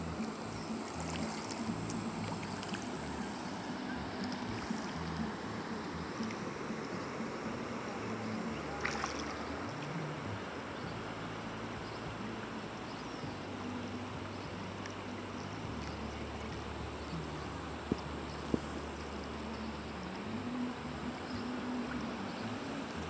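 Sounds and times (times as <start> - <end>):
river rushing: 0.0 - 23.0
wind rumble on microphone: 0.0 - 23.0.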